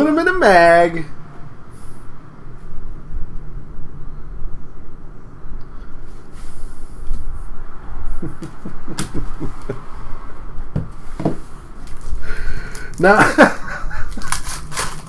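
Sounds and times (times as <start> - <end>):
steady low rumble: 1.1 - 14.3.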